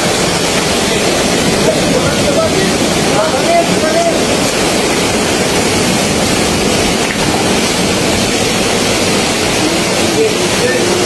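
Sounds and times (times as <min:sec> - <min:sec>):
rushing wind and rain: 0:00.0 - 0:11.0.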